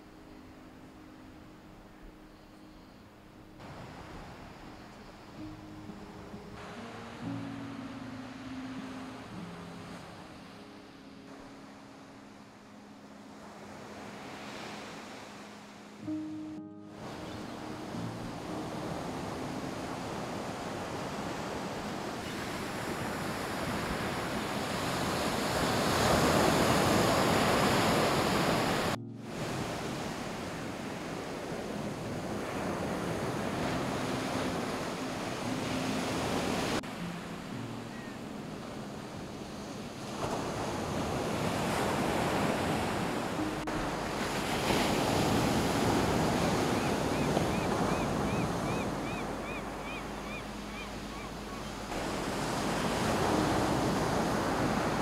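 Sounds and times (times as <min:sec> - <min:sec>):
ocean surf breaking on beach: 0:03.4 - 0:55.0.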